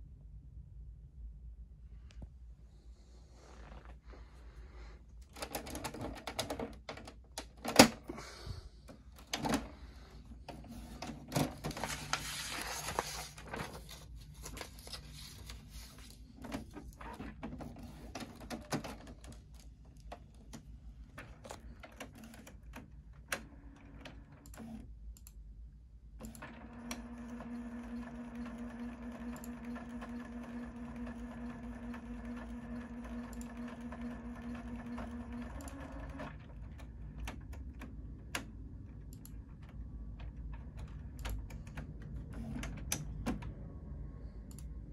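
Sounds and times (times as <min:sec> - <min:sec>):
printer mechanism whirring hum: 0:08.8 - 0:44.9.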